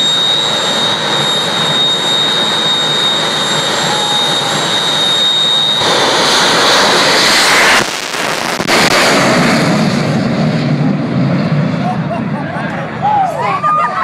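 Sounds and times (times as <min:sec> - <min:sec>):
turbine engine whine: 0:00.0 - 0:14.0
broad rushing noise: 0:02.3 - 0:14.0.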